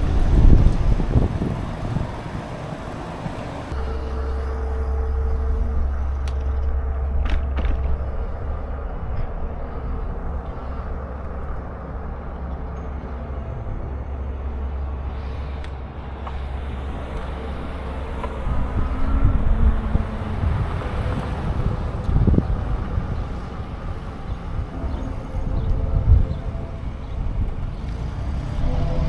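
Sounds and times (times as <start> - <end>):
wind rumbling on microphone: 0.0 - 3.9, 4.6 - 29.0
road and traffic noise: 0.0 - 29.0.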